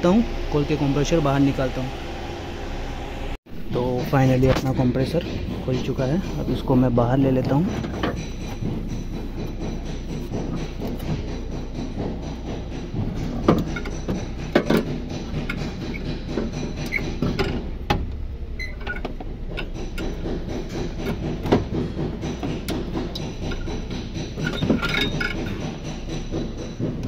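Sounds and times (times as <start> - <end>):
steady low hum: 0.0 - 27.0
metallic knocks and clanks: 3.6 - 27.0.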